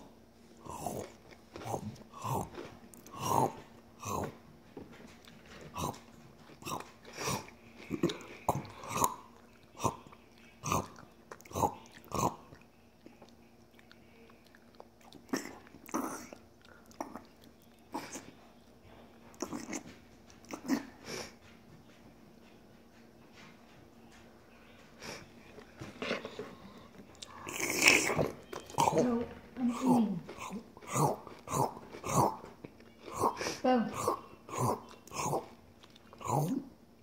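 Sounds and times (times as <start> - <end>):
crunchy cereal being chewed: 0.5 - 21.0, 24.7 - 36.6.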